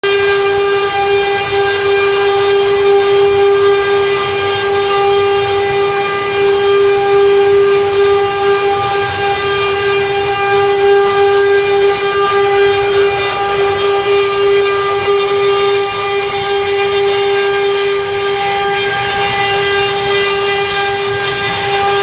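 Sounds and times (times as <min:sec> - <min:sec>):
router spindle whining: 0:00.0 - 0:22.0.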